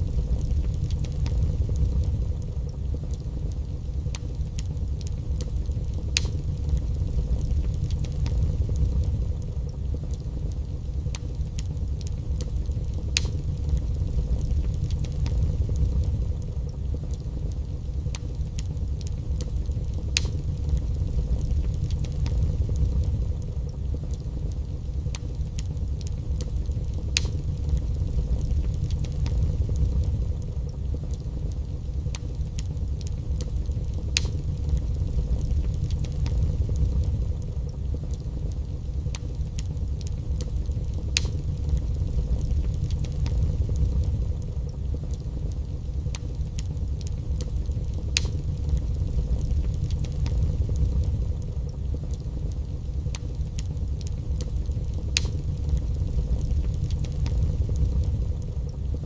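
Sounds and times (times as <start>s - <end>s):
fire low rumble: 0.0s - 59.0s
wood fire crackling and popping: 0.0s - 59.0s.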